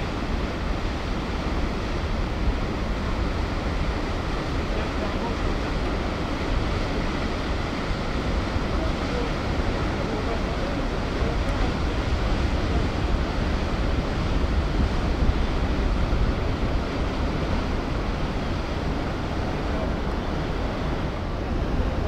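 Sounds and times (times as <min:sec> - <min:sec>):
ferry engine rumble: 0:00.0 - 0:22.0
water wash from wake: 0:00.0 - 0:22.0
wind on microphone: 0:00.0 - 0:22.0.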